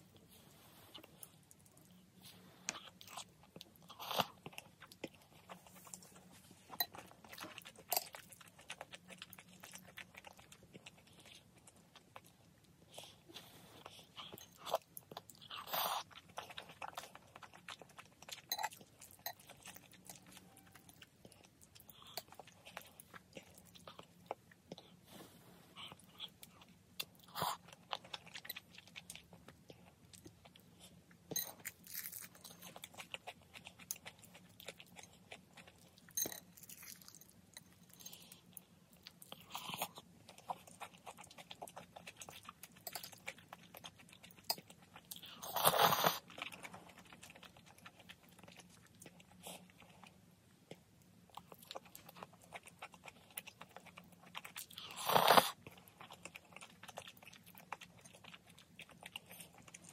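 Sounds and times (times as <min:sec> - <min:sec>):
wet chewing: 0:00.1 - 0:25.0, 0:25.7 - 0:59.9.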